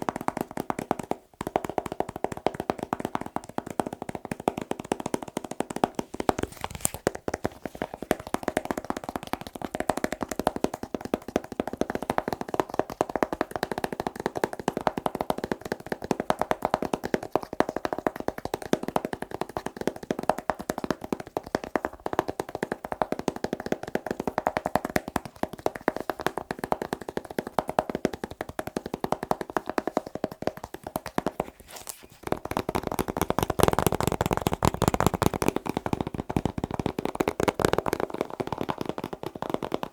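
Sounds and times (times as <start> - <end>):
rapid fingertip tapping: 0.0 - 39.9.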